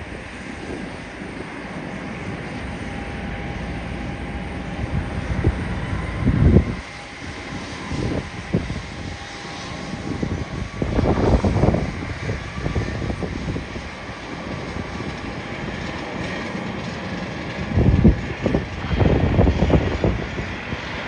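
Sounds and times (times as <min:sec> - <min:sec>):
jet engines whining: 0:00.0 - 0:21.0
wind buffeting microphone: 0:00.0 - 0:21.0.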